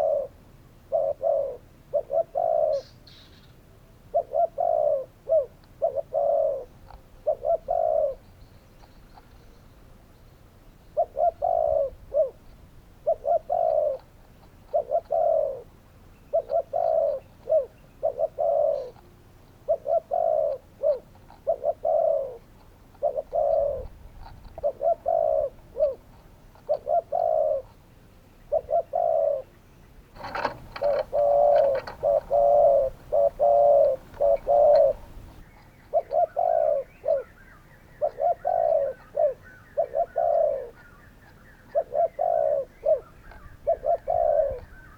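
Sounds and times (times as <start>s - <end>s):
dove cooing: 0.0s - 3.2s, 4.1s - 9.6s, 10.4s - 27.8s, 28.5s - 29.5s, 30.2s - 44.9s.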